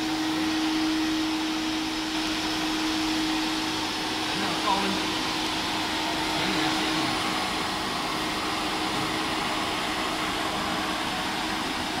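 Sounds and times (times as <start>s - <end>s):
grinder rushing machine noise: 0.0s - 12.0s.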